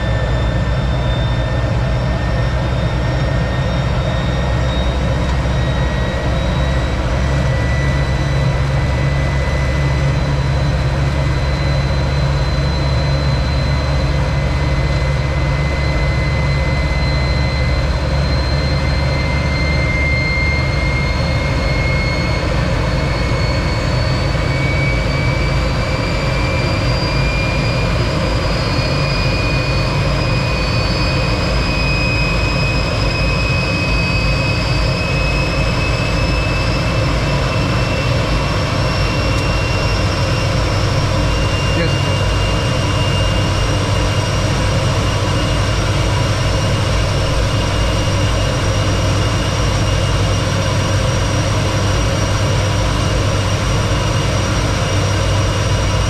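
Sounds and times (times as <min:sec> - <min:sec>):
jet engine rumble and whine: 0:00.0 - 0:56.0.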